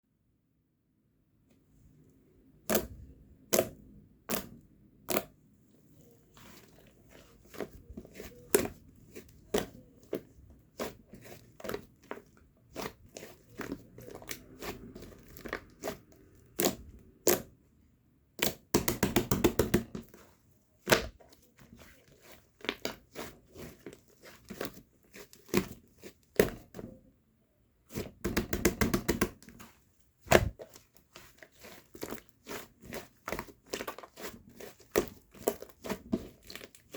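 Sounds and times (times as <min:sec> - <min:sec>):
slime squishing: 0:02.5 - 0:17.7, 0:18.3 - 0:27.2, 0:27.8 - 0:36.9.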